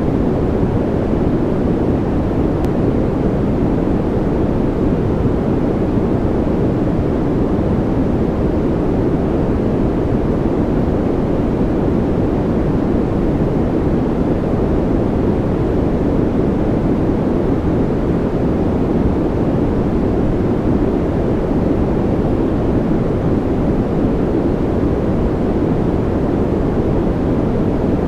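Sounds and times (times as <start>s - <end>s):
deep white noise: 0.0s - 28.0s.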